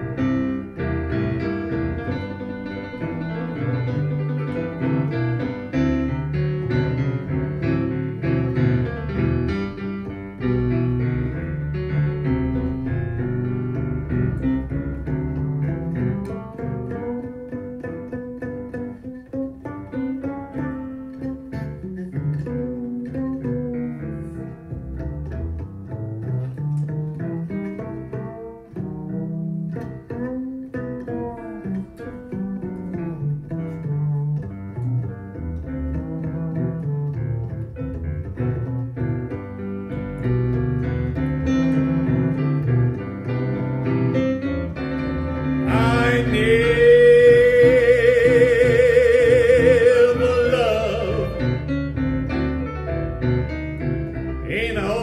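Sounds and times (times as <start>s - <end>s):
blues guitar: 0.0s - 55.0s
boogie-woogie piano: 0.0s - 55.0s
walking bass: 0.0s - 55.0s.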